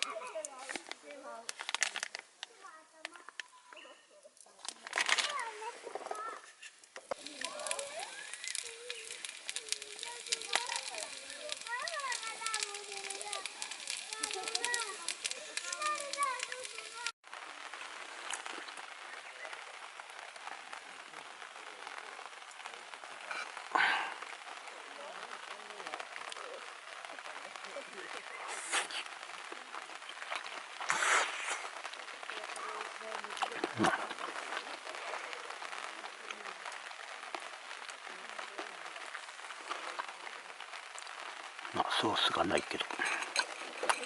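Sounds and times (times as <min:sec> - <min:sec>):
food sizzling on a griddle: 0:00.0 - 0:03.8, 0:04.7 - 0:44.0.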